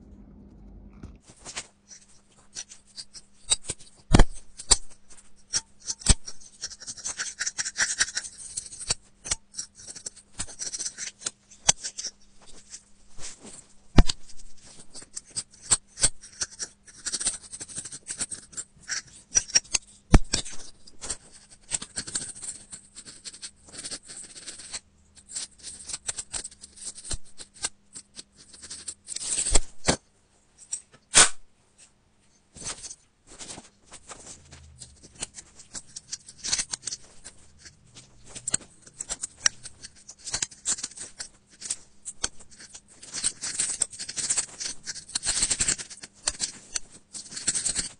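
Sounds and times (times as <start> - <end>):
metal pick scratching and clicking: 1.0 - 12.9, 14.0 - 30.0, 32.6 - 47.9.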